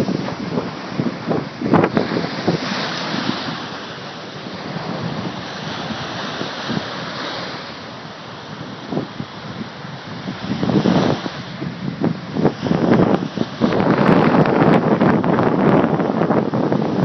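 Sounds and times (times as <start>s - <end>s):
ocean surf breaking on shore: 0.0s - 17.0s
wind buffeting microphone: 0.0s - 17.0s.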